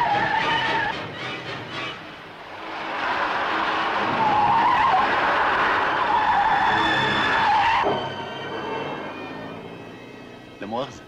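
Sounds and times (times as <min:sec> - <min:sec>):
car engine noise: 0:00.0 - 0:11.0
car tyres screeching: 0:00.0 - 0:11.0.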